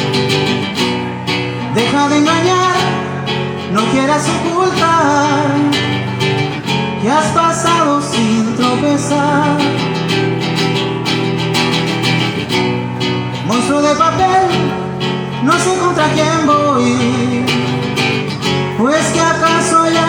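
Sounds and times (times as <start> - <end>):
guitar chords: 0.0 - 20.0.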